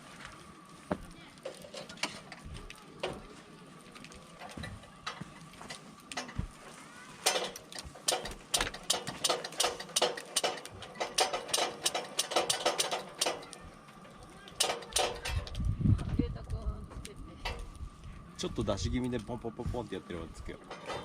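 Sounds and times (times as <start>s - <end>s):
campfire wood crackling and popping: 0.0s - 20.9s.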